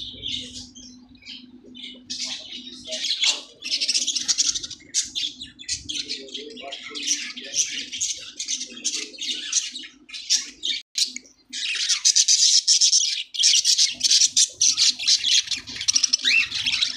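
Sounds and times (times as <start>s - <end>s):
budgerigars chirping: 0.0s - 16.9s.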